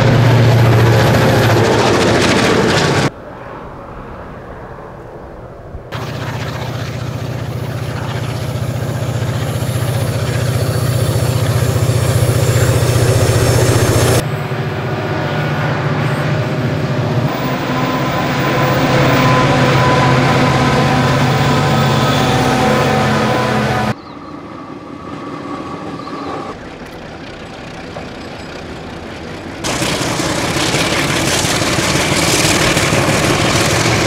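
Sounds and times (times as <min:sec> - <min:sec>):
locomotive engine drone: 0:00.0 - 0:34.0.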